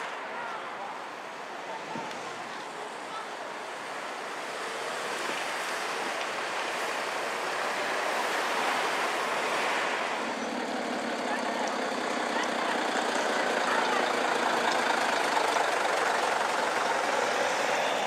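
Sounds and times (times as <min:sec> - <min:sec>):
bus driving past: 0:00.0 - 0:18.0.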